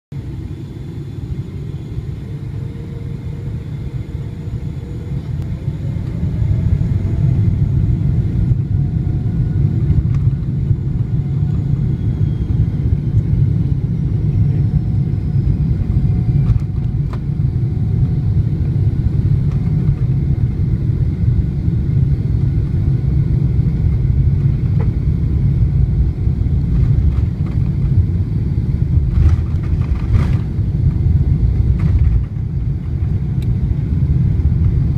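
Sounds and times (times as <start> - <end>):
jet engine rumble: 0.1 - 34.9
jet engine whine rising: 0.2 - 34.9.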